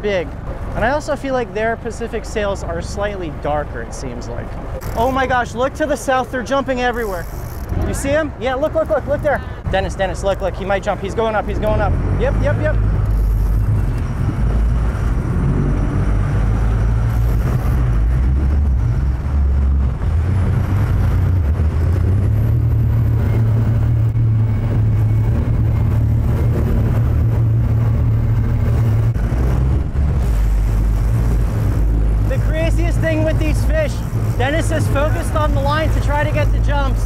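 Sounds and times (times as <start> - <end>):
boat engine rumbling: 0.0 - 37.0
water splashing along hull: 0.2 - 37.0.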